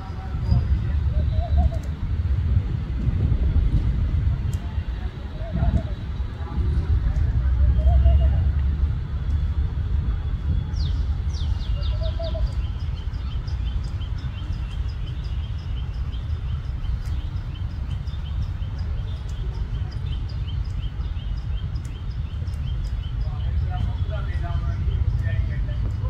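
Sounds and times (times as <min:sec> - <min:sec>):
birds chirping: 0:00.0 - 0:02.3, 0:04.1 - 0:26.0
steady low rumble: 0:00.0 - 0:26.0.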